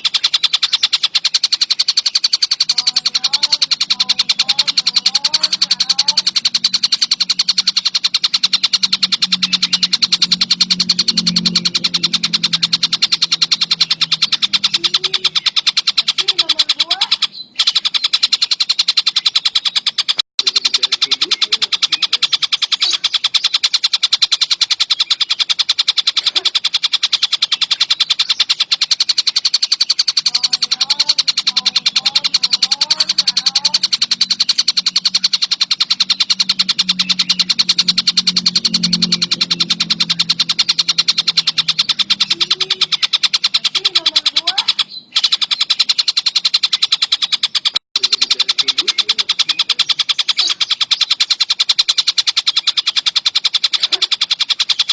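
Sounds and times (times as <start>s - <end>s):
kingfisher chattering: 0.0s - 54.9s
lower bird whistles: 0.0s - 54.9s.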